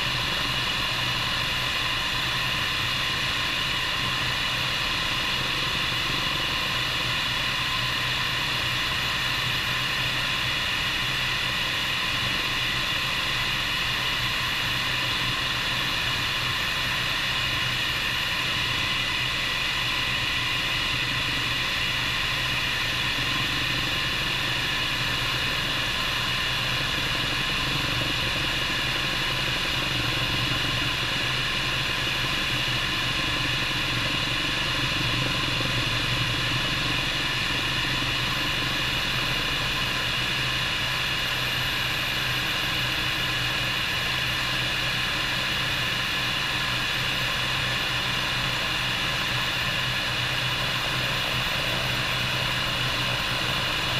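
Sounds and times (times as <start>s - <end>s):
helicopter turbine whine and rotor: 0.0s - 53.9s.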